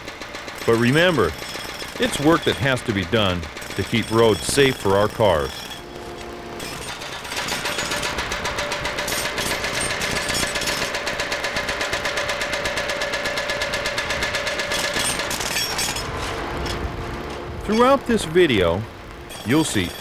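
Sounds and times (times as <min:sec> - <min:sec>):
jackhammers hammering: 0:00.0 - 0:20.0
steady hum: 0:00.0 - 0:20.0.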